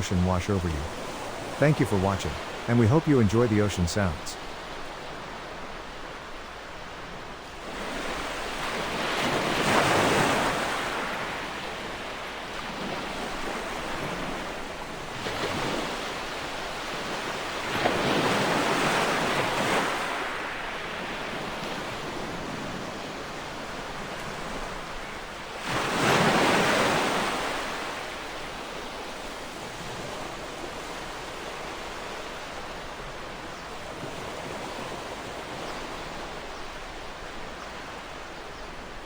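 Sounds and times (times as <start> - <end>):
ocean waves crashing on shore: 0.0 - 39.0.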